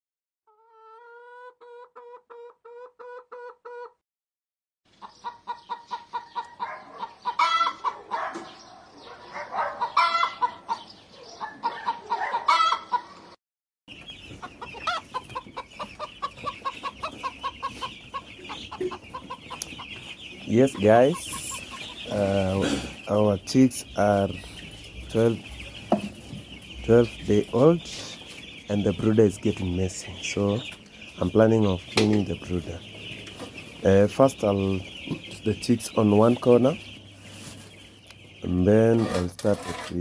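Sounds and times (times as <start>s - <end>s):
chickens clucking: 0.5s - 4.0s, 4.9s - 40.0s
chicks peeping: 0.5s - 4.0s, 4.9s - 40.0s.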